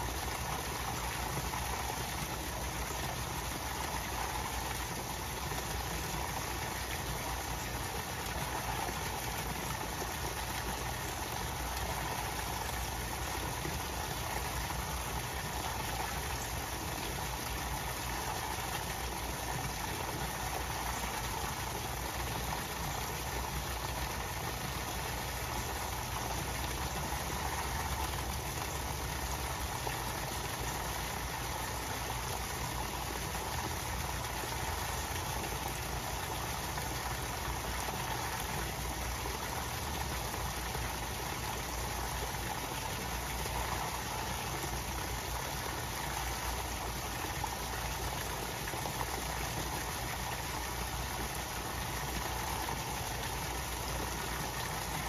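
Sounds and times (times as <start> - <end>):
water splashing into pond: 0.0 - 55.0.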